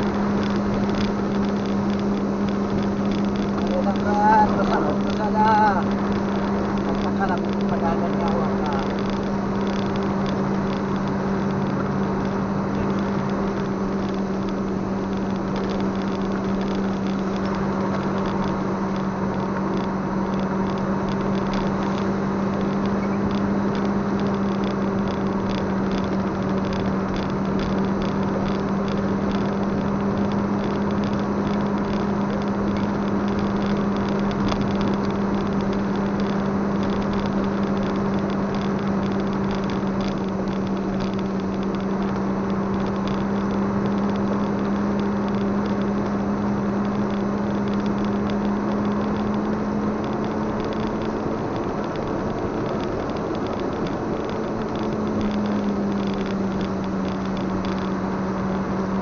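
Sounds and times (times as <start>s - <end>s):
constant low hum: 0.0s - 59.0s
vehicle driving on wet road: 0.0s - 59.0s.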